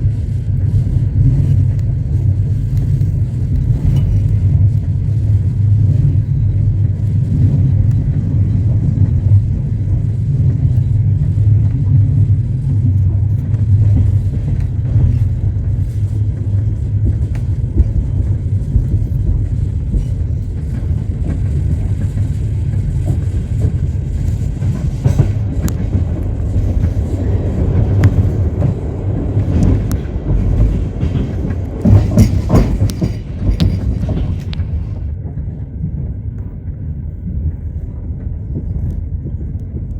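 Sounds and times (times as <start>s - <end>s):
train wheels clacking: 0.0s - 39.9s
train wheels rumbling on rails: 0.0s - 39.9s.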